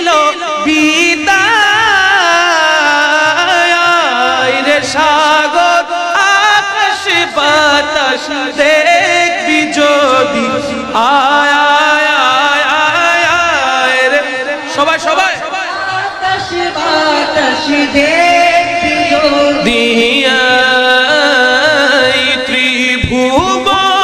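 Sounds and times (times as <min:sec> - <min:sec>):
person singing with vibrato: 0:00.0 - 0:24.0.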